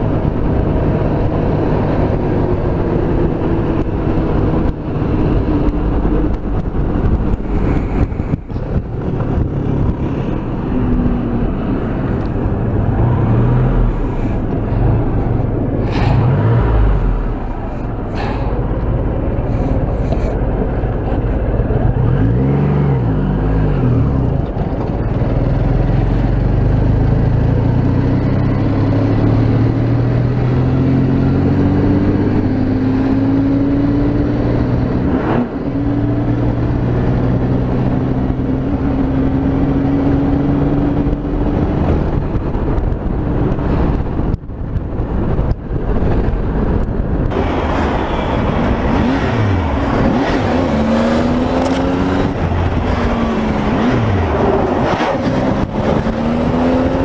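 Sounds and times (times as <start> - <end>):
wind rushing: 0.0 - 25.5, 29.0 - 57.0
motorcycle engine at speed: 0.0 - 57.0.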